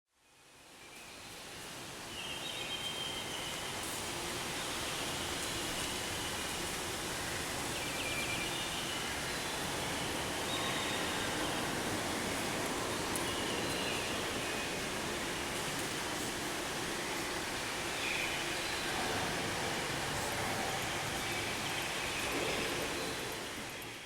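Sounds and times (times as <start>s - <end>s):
outdoor ambient rushing noise: 0.3s - 24.0s.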